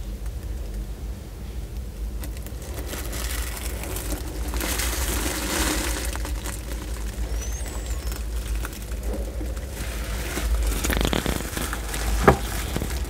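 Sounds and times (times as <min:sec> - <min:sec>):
low hum: 0:00.0 - 0:13.0
tortoise chewing fruit: 0:00.0 - 0:13.0.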